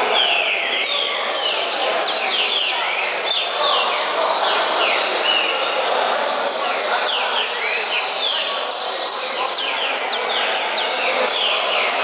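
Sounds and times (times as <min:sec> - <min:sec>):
background hubbub: 0:00.0 - 0:12.0.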